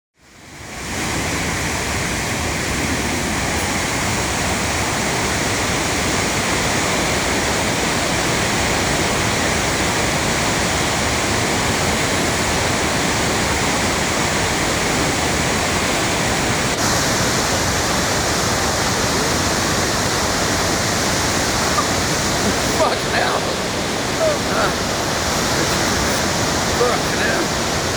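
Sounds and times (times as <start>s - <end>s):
waterfall roaring: 0.3s - 27.9s.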